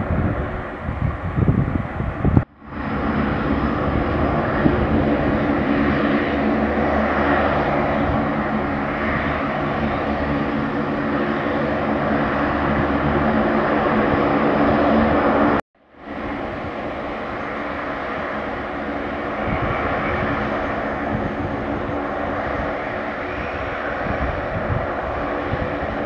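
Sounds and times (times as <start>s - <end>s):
turboprop aircraft engines droning: 0.0s - 26.0s.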